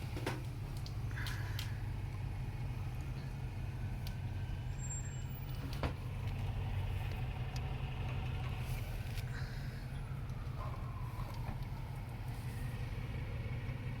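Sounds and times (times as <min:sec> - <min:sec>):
heavy vehicle engines rumbling: 0:00.0 - 0:14.0.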